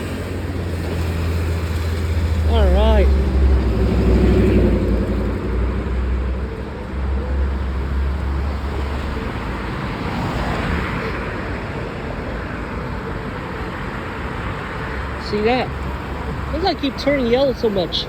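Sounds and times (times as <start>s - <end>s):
road traffic rumble: 0.0s - 18.0s
vehicle passing: 0.0s - 18.0s.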